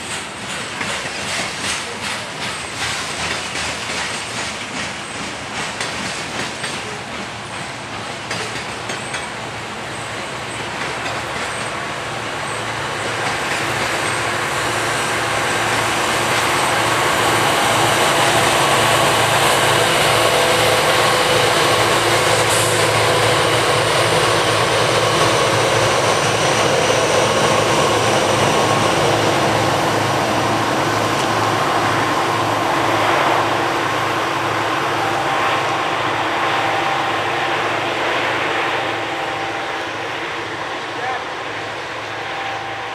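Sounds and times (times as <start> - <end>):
diesel locomotive engine drone: 0.0 - 42.9
train rolling on rails: 0.0 - 42.9.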